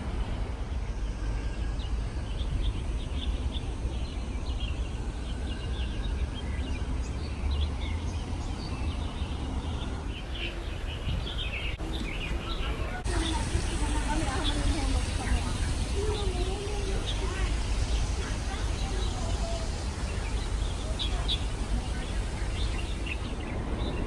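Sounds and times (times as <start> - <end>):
small birds chirping: 0.8 - 24.0.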